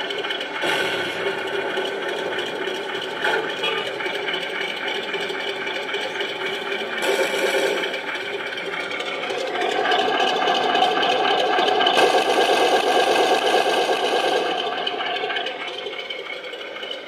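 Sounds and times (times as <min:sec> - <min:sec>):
simulated tank engine from small speaker: 0:00.0 - 0:17.0.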